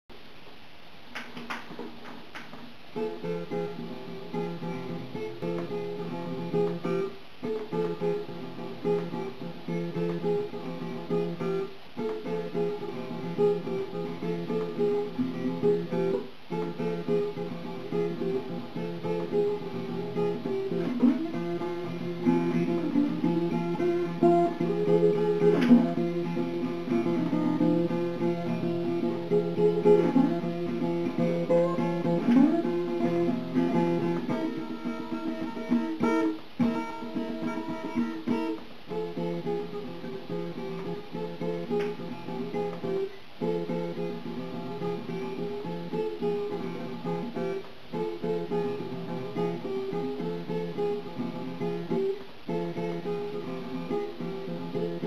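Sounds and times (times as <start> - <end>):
acoustic guitar playing: 1.0 - 55.0.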